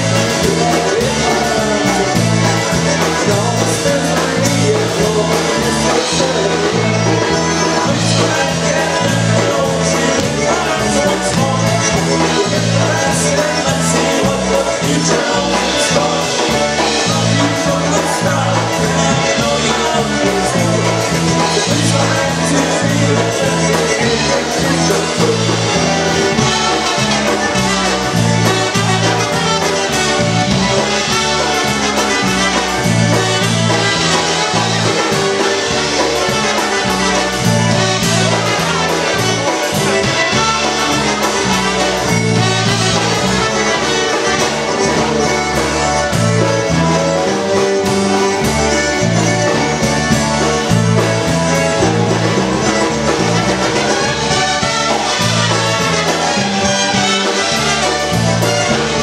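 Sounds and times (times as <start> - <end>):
polka band playing: 0.0 - 59.0
trumpets: 0.0 - 59.0.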